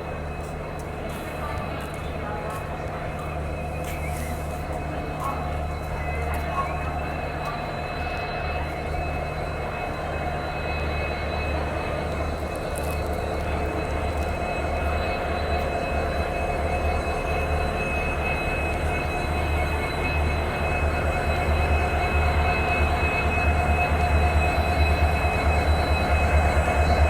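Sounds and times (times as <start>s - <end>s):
diesel locomotive idling: 0.0s - 27.0s.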